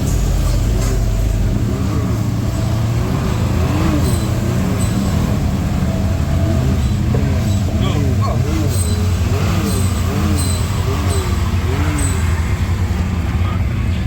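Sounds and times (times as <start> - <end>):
atv engine revving: 0.0 - 13.9.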